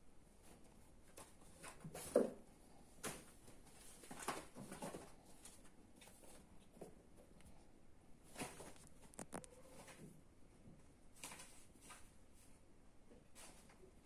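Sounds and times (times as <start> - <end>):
kittens thumping and rustling: 0.3 - 7.3, 8.2 - 14.0.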